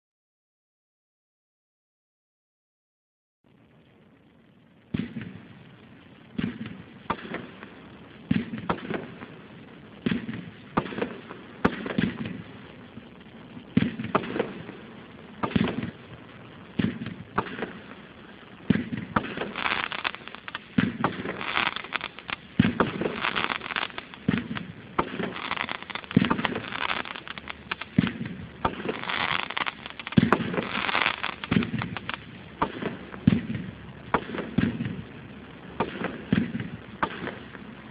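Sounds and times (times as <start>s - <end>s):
crackle of bursting fireworks: 3.4s - 37.9s.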